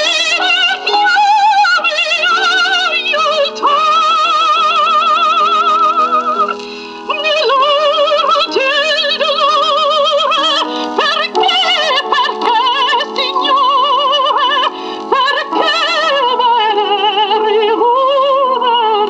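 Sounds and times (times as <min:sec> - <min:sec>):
woman singing operatic song: 0:00.0 - 0:19.0.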